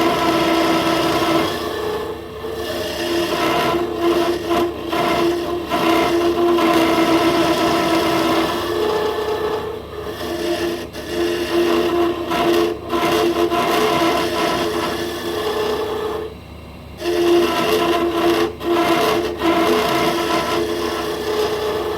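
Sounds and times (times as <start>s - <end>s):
tool scraping wood: 0.0s - 16.4s, 17.0s - 21.9s
wood lathe whine: 0.0s - 21.9s.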